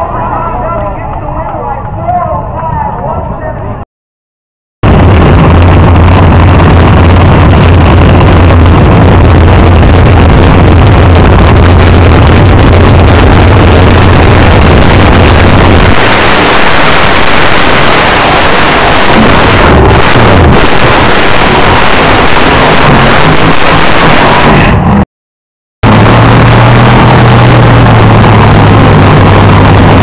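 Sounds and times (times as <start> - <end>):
dragster engine roaring: 0.0 - 3.8, 4.8 - 25.0, 25.8 - 30.0.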